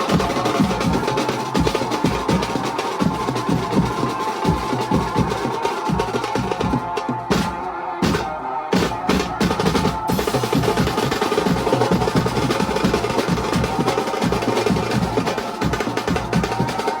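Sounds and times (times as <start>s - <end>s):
street band drumming: 0.0s - 17.0s.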